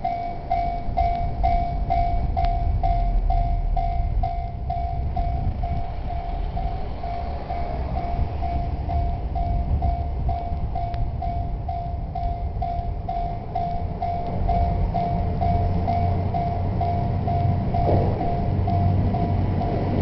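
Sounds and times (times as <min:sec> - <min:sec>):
diesel train rumble: 0:00.0 - 0:20.0
level crossing bell ringing: 0:00.0 - 0:20.0.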